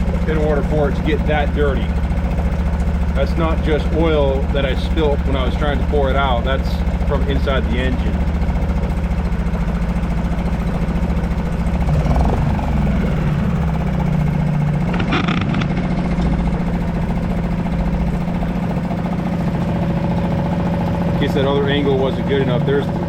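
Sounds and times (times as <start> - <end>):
outboard motor running in water: 0.0 - 23.0.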